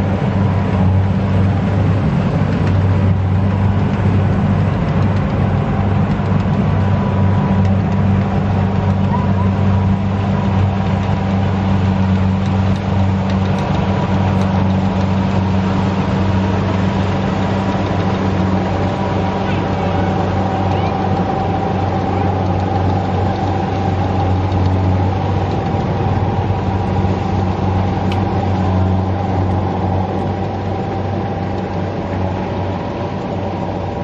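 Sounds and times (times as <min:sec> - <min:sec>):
combine harvester engine hum: 0:00.0 - 0:34.0.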